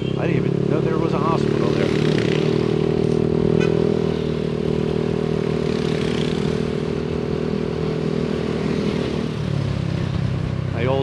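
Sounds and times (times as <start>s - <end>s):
road and wind noise: 0.0s - 11.0s
scooter engine cruising: 0.0s - 11.0s.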